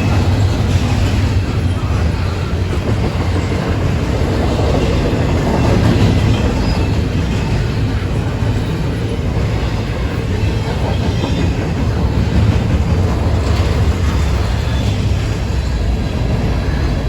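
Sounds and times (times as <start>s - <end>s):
clickety-clack over rail joints: 0.0s - 17.0s
train wheels rumbling on rails: 0.0s - 17.0s.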